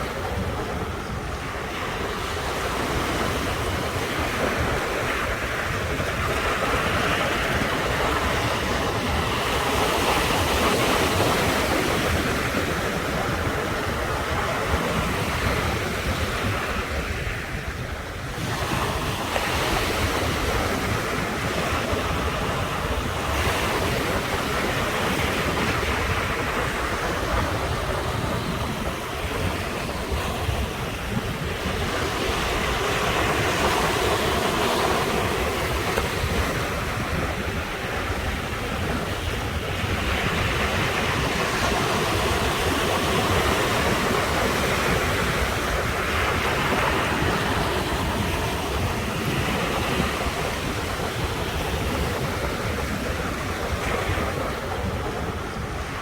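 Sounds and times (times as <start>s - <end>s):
ocean waves washing ashore: 0.0s - 56.0s
wind buffeting microphone: 0.0s - 56.0s.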